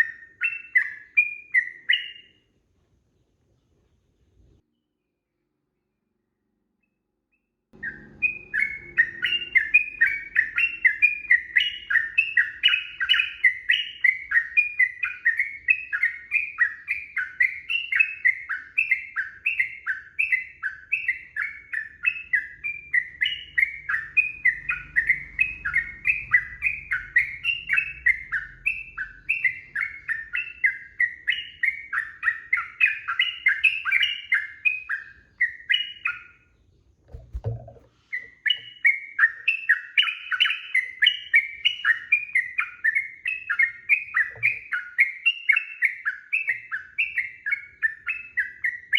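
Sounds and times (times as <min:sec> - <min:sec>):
bulbul chattering song: 0:07.8 - 0:48.9.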